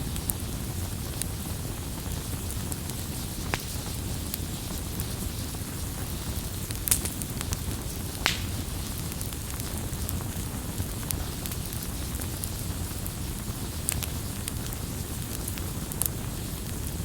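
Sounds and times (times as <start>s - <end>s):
campfire rumble: 0.0s - 17.0s
wood crackles and pops: 0.0s - 17.0s.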